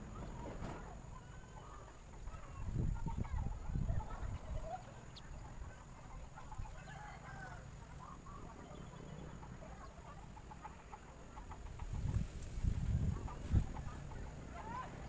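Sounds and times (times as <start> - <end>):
bird chirps and clucks: 0.0 - 15.0.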